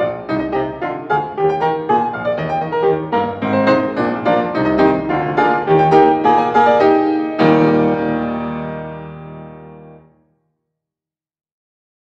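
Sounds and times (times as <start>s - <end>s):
piano music: 0.0s - 10.2s.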